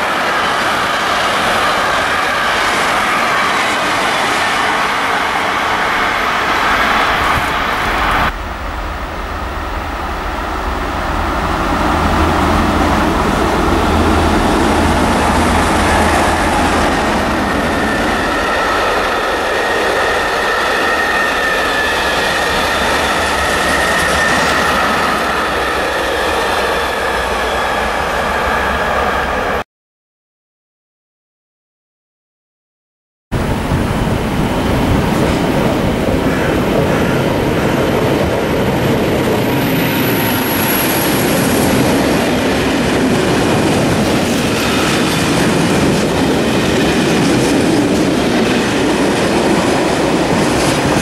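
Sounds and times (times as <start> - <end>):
freight train rumble and clatter: 0.0 - 29.6, 33.4 - 51.0.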